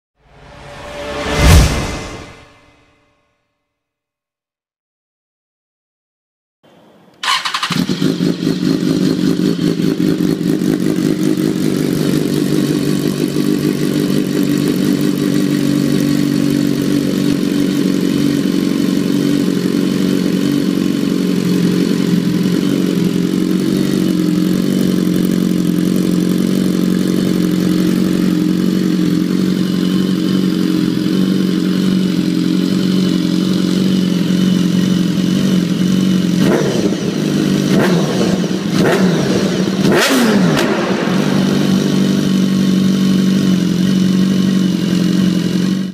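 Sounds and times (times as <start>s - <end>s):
motorcycle engine idling: 7.2s - 45.9s.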